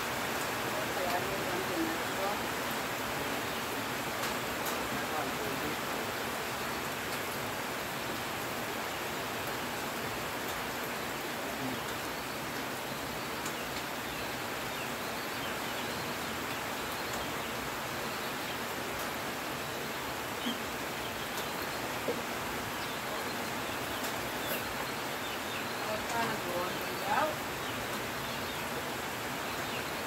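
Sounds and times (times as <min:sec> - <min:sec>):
heavy rain on foliage and metal roof: 0:00.0 - 0:30.0.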